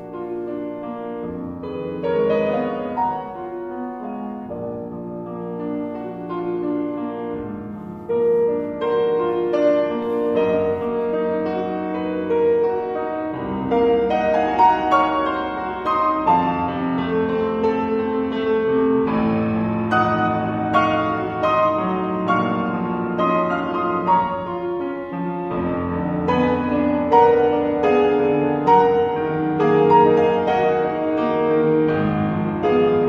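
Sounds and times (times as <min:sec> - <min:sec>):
solo grand piano piece: 0:00.0 - 0:33.0.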